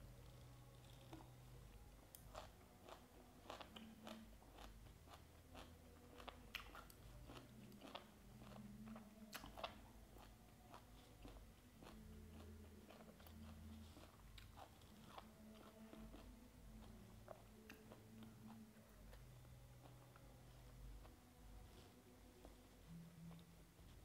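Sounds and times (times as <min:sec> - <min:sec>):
soft crunchy chewing: 0:00.0 - 0:24.0.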